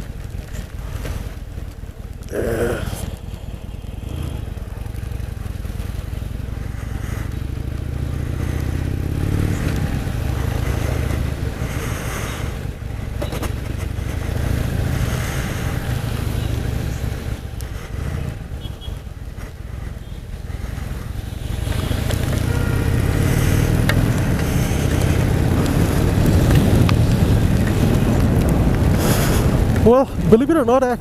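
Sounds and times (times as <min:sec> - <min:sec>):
motorcycle engine running: 0:00.0 - 0:30.2.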